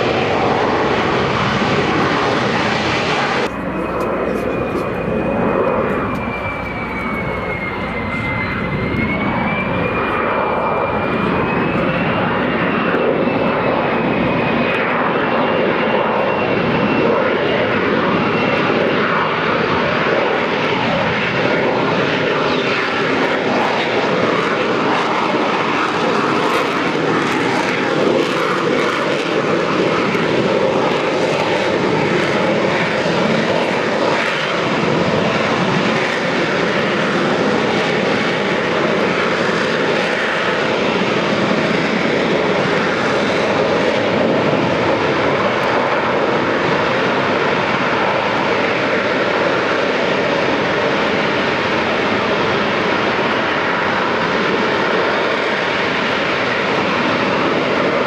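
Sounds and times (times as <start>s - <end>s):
high jet whine: 0.0s - 58.0s
jet engine roaring: 0.0s - 58.0s.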